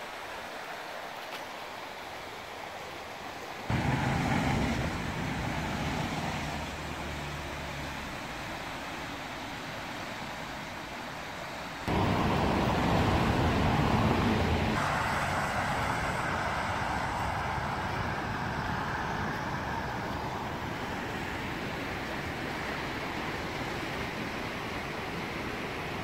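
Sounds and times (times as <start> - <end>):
tyres hissing on wet road: 0.0 - 26.0.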